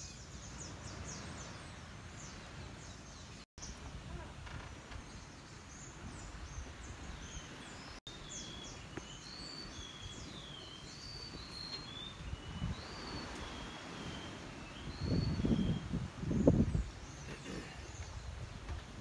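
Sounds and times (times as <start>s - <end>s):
birds chirping: 0.0s - 19.0s
low outdoor background noise: 0.0s - 19.0s.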